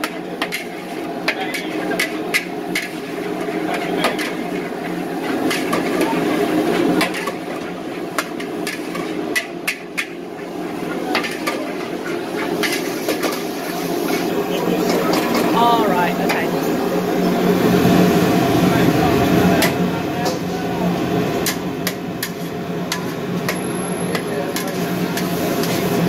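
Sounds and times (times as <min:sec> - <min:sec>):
frying sizzle: 0:00.0 - 0:26.0.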